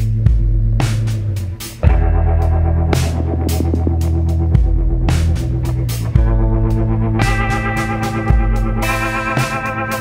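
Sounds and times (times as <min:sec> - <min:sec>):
electronic music with synth bass: 0:00.0 - 0:10.0.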